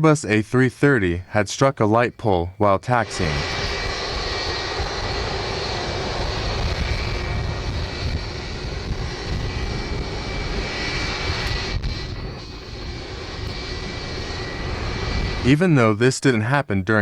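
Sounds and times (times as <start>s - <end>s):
jet engines taxiing: 0.0s - 17.0s.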